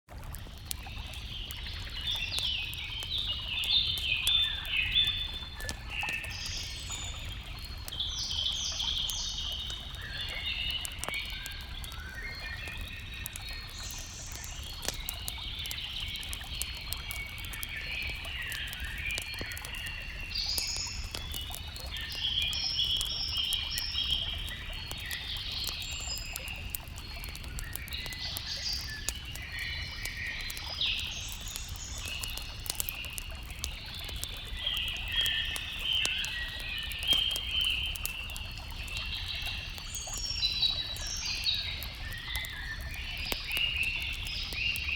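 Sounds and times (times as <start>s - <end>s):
birds singing: 0.6s - 44.9s.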